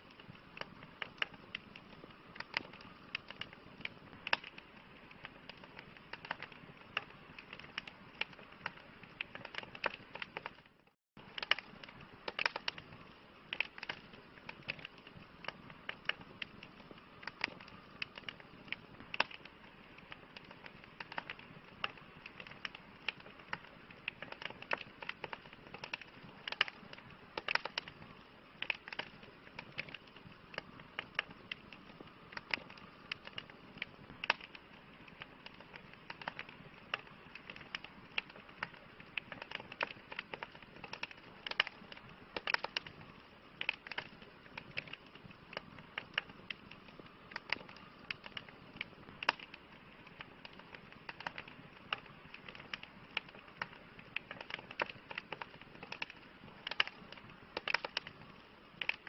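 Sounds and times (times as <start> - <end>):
campfire crackling and popping: 0.0 - 59.0
soft fire hiss: 0.0 - 59.0.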